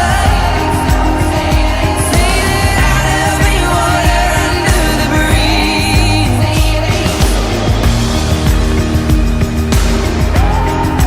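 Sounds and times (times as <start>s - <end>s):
person singing: 0.0s - 8.5s, 10.2s - 11.0s
music with steady beat: 0.0s - 11.0s.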